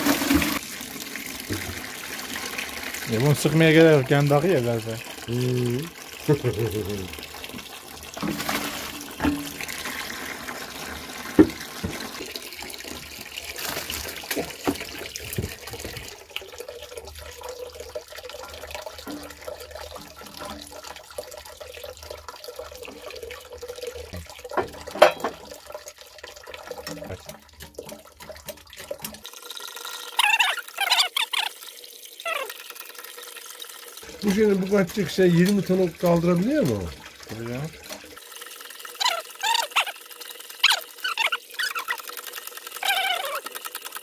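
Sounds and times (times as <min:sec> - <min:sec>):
liquid pouring over crushed fruit: 0:00.0 - 0:24.7, 0:27.9 - 0:44.0
juice trickling into tub: 0:00.0 - 0:44.0.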